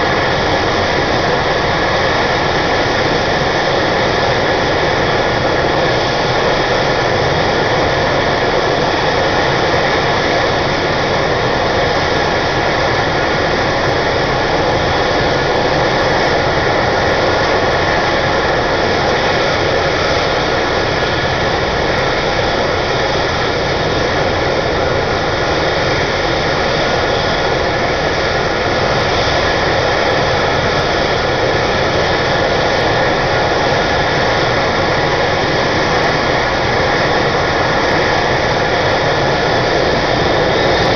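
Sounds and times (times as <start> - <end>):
helicopter turbine whine and rotor: 0.0 - 40.9.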